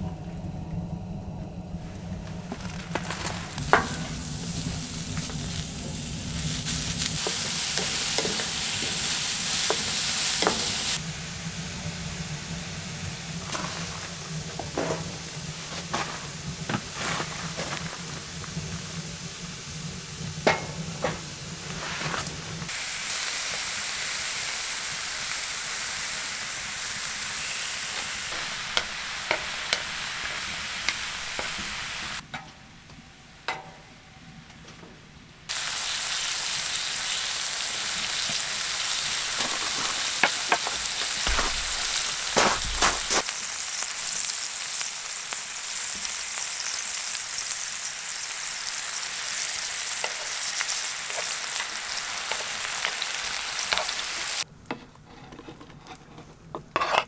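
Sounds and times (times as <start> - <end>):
food sizzling in a frying pan: 2.6 - 32.2, 35.5 - 54.5.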